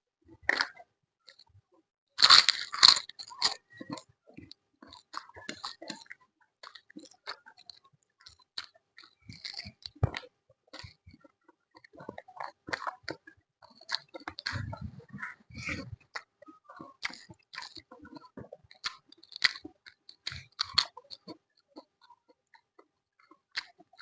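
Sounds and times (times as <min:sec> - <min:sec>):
crunching fried food: 0:02.2 - 0:04.1, 0:04.8 - 0:11.2, 0:11.8 - 0:24.0.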